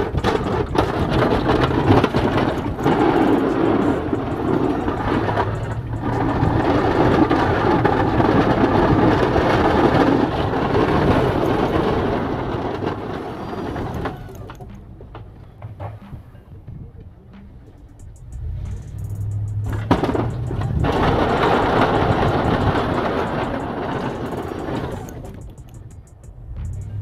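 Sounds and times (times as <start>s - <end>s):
snow plow blade scraping snow: 0.0s - 14.6s, 18.4s - 25.5s
truck engine drone: 0.0s - 27.0s.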